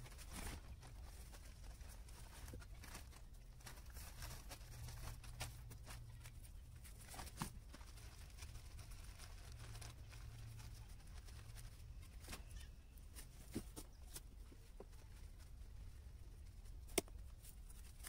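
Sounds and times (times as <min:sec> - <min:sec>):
low steady hum: 0:00.0 - 0:18.0
plastic tarpaulin rustling: 0:00.0 - 0:18.0.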